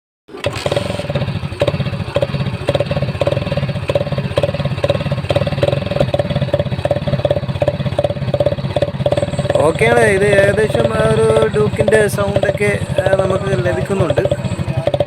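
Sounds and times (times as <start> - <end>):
motorcycle engine idling: 0.3 - 15.0.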